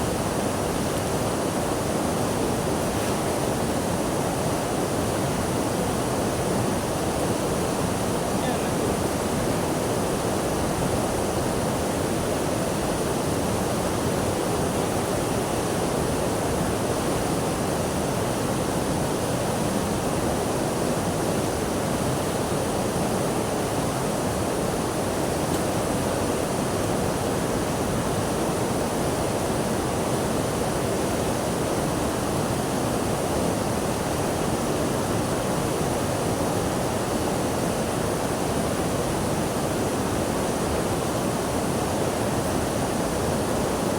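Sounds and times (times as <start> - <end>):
water rushing: 0.0 - 43.9.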